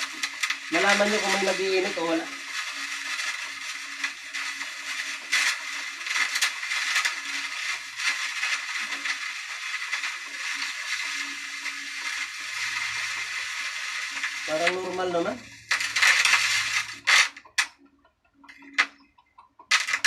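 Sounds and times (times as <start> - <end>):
amplifier hiss: 0.0 - 17.7
crackling static: 0.0 - 20.0.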